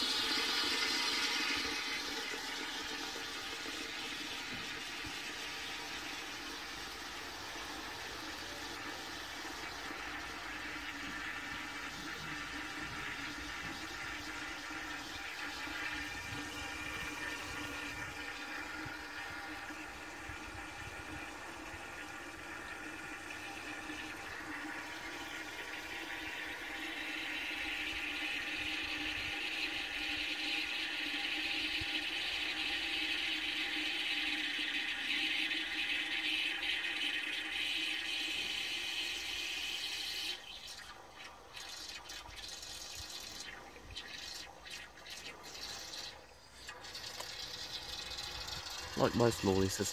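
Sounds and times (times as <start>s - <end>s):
water hissing into cistern: 0.0s - 49.9s.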